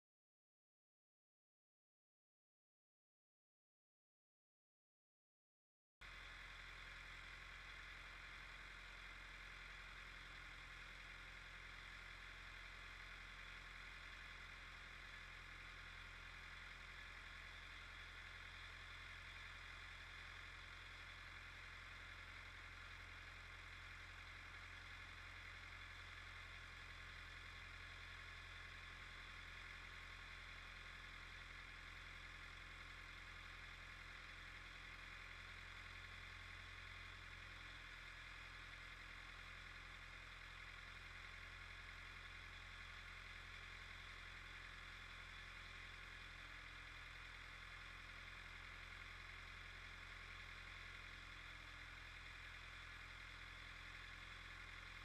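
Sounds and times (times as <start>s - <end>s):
tractor engine running: 6.0s - 55.0s.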